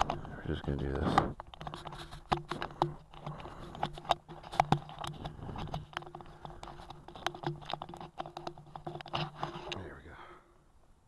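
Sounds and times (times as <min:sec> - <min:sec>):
camera handling noise: 0:00.9 - 0:09.8.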